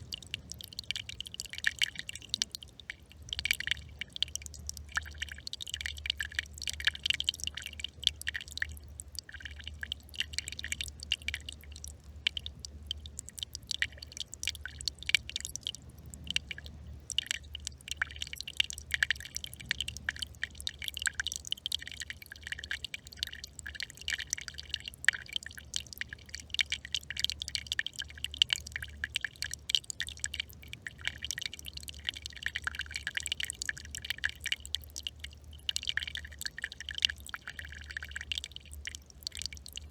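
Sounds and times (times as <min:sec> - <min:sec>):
brook trickling: 0:00.0 - 0:39.9.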